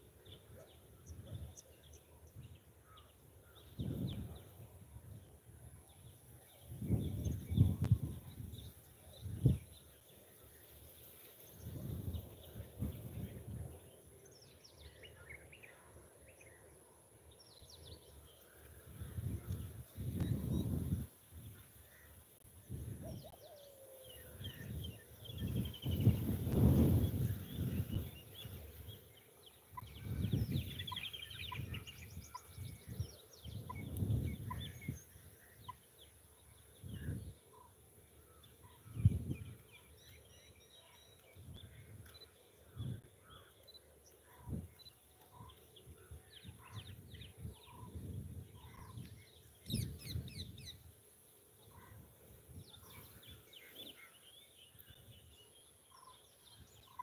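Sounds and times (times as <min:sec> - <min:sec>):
birds calling and chirping: 0:00.0 - 0:57.0.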